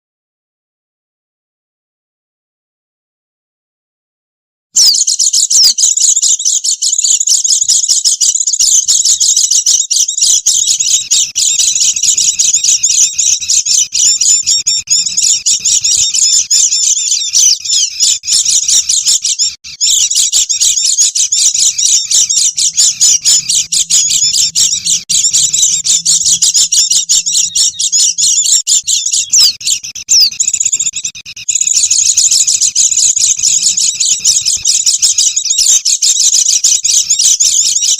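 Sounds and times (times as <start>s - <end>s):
birds chirping rapidly: 4.8s - 37.9s.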